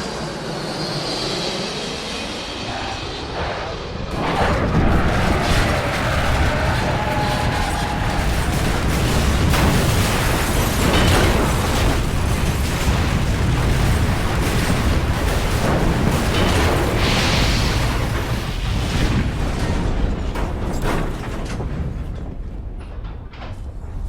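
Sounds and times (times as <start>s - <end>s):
deep rumbling with booms: 3.4s - 24.0s.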